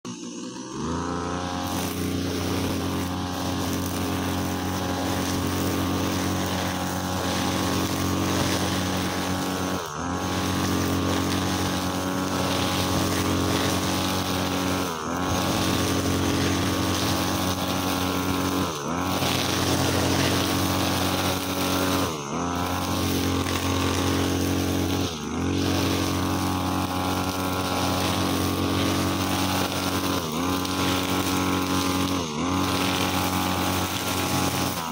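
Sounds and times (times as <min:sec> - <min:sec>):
brushcutter engine at high revs: 0:00.0 - 0:34.9
trimmer line cutting grass: 0:00.0 - 0:34.9.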